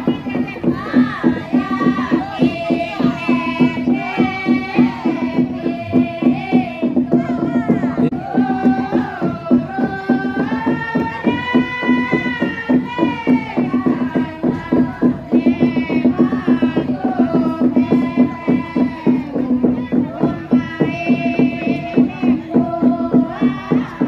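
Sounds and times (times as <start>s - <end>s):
quick rhythmic pulse: 0.0s - 24.0s.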